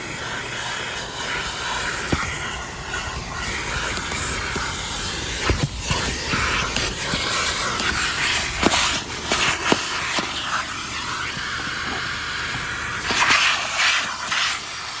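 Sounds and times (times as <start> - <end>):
vacuum cleaner suction hiss: 0.0 - 15.0.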